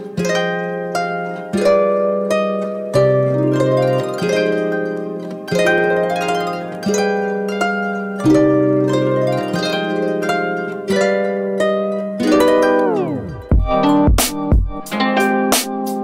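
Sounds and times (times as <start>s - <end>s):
plucked harp-like chords: 0.0s - 16.0s.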